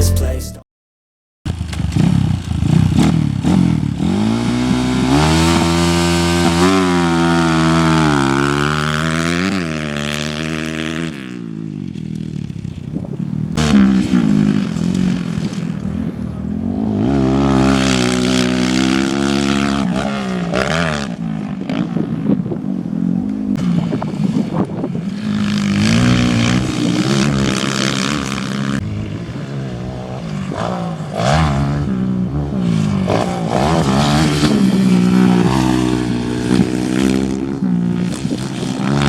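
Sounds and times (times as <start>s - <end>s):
motorcycle engine revving: 1.5s - 39.0s.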